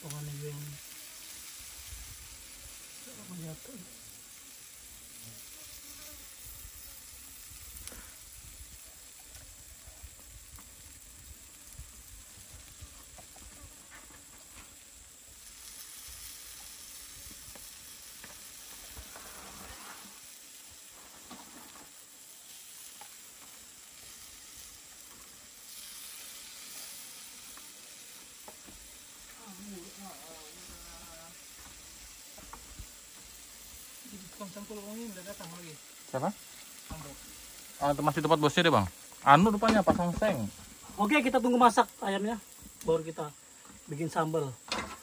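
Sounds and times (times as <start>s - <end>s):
chicken sizzling on grill: 0.0s - 45.0s
fire crackles: 0.0s - 45.0s.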